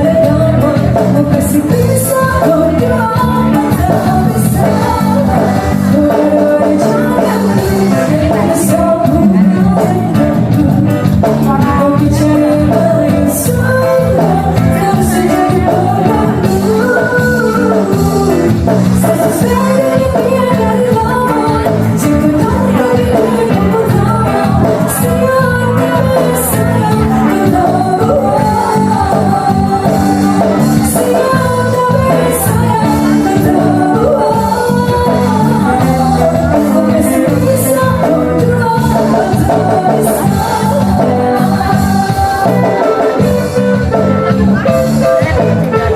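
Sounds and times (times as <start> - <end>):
band with steady bass line: 0.0 - 45.9
guitar: 0.0 - 45.9
person singing: 0.0 - 45.9.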